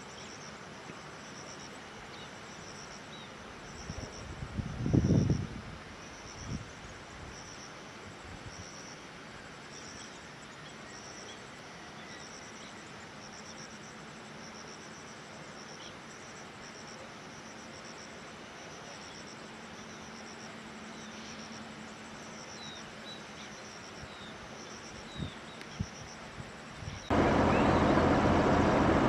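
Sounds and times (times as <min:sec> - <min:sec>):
crickets chirping: 0:00.0 - 0:28.9
steady outdoor hiss: 0:00.0 - 0:29.0.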